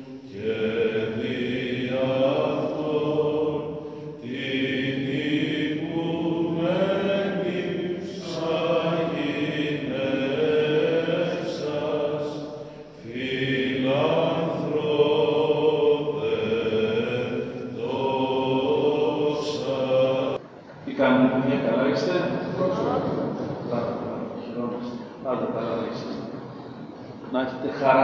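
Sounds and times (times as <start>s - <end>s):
voices chanting a slow hymn: 0.0s - 28.0s.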